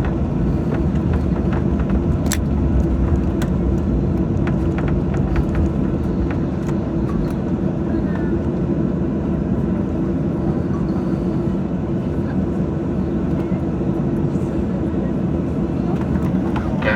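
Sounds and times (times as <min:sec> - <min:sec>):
airplane cabin rumble: 0:00.0 - 0:16.9.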